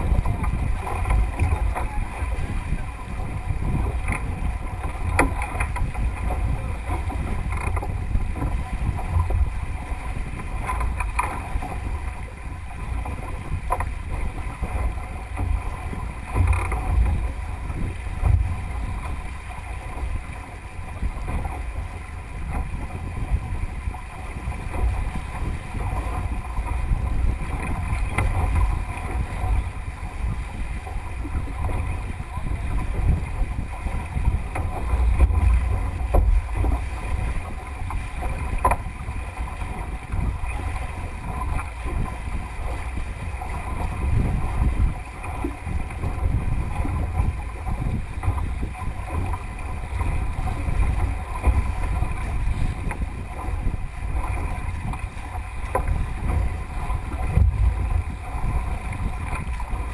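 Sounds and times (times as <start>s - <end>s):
water splashing along hull: 0.0s - 59.9s
wind buffeting microphone: 0.0s - 59.9s.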